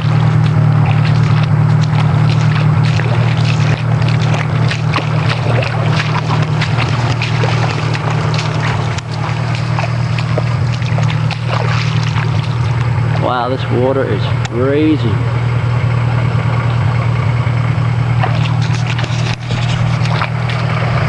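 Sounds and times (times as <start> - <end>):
engine idling: 0.0 - 21.0
wading through muddy water: 0.0 - 21.0.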